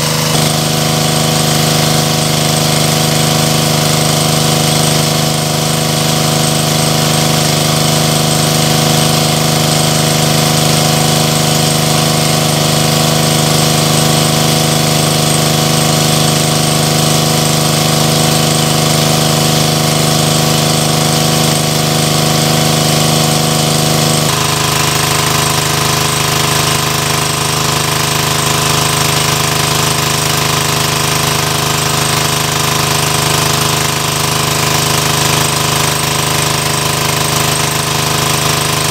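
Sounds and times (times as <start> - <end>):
small petrol engine running: 0.0 - 38.9
water gushing from hose: 0.0 - 38.9.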